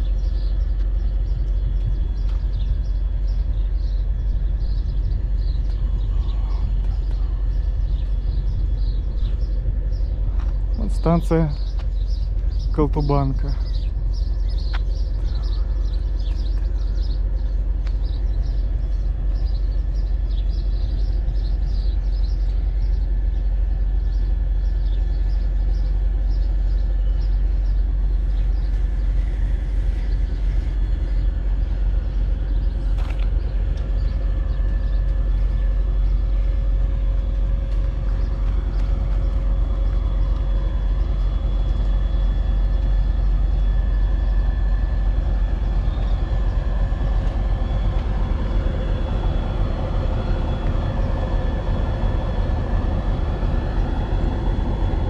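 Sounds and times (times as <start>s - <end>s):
diesel locomotive idling rumble: 0.0s - 55.0s.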